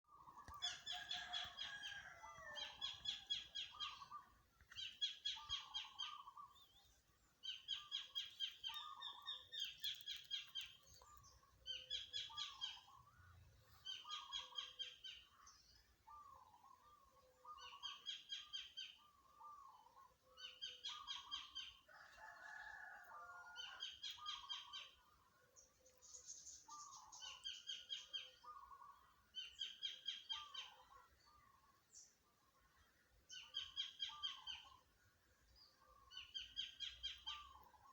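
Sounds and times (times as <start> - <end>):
bird chirps: 0.1 - 21.9, 23.3 - 37.9.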